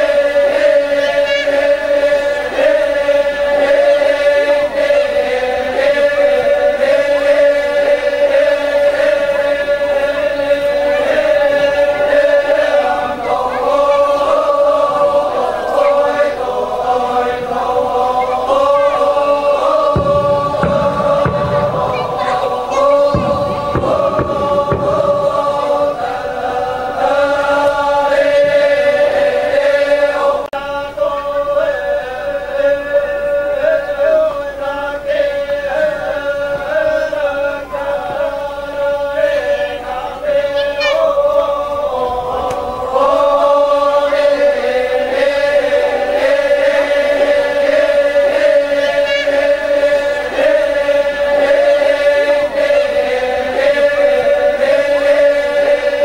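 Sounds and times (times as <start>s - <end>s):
group of voices chanting: 0.0s - 56.0s.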